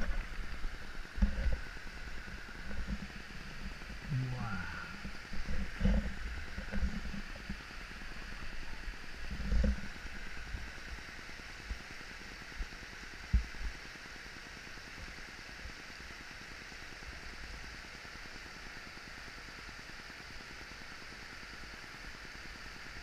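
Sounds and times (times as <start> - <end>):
waterfall running over rocks: 0.0 - 23.0.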